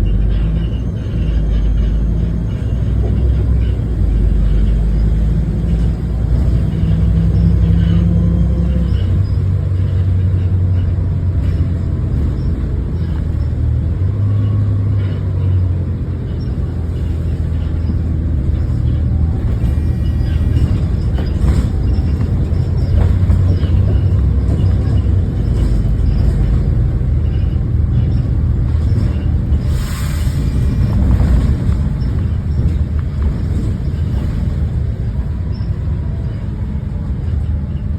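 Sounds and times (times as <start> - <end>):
bus diesel engine rumbling: 0.0 - 37.9.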